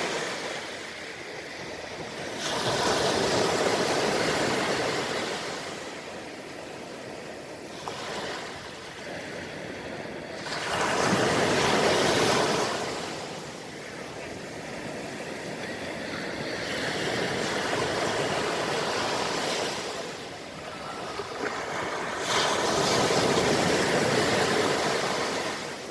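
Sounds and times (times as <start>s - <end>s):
sea waves washing on sand: 0.0s - 25.9s.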